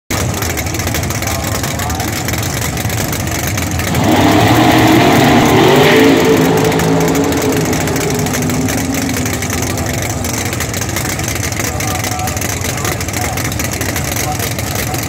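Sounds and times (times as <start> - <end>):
drag car engine idling and revving: 0.1 - 15.0.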